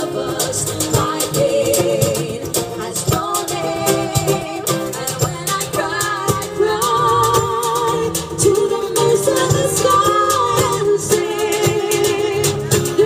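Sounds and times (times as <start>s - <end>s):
acoustic guitar: 0.0s - 13.0s
bass: 0.0s - 13.0s
hand percussion: 0.0s - 13.0s
woman singing: 0.0s - 13.0s.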